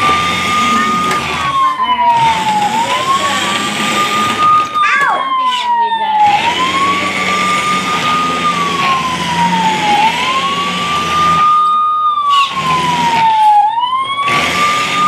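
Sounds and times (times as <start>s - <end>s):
toy police siren wailing: 0.0s - 15.0s.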